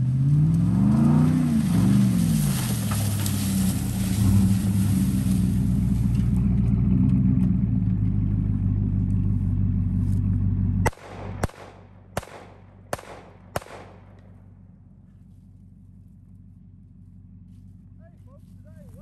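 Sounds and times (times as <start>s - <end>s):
pickup engine running: 0.0s - 19.0s.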